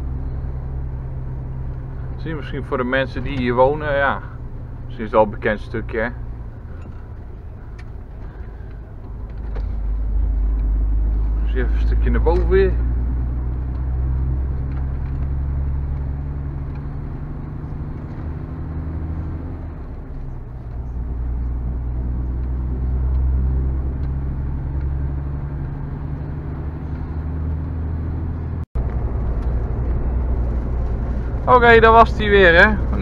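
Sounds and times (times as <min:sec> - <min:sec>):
lorry diesel engine droning: 0:00.0 - 0:33.0
road noise: 0:00.0 - 0:33.0.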